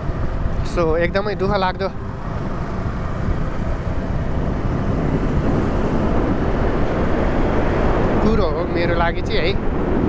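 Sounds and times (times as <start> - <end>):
motorcycle engine: 0.0 - 10.0
wind rushing over microphone: 0.0 - 10.0.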